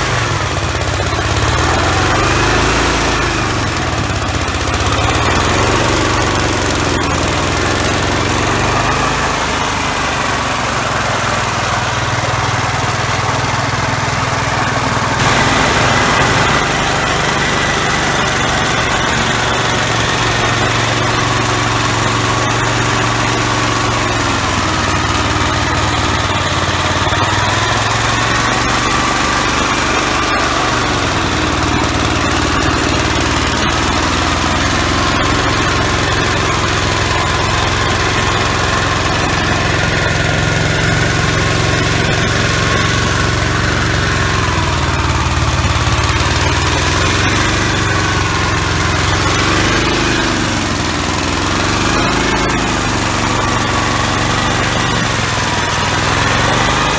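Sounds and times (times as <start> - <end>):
walk-behind tractor engine running: 0.0 - 56.9.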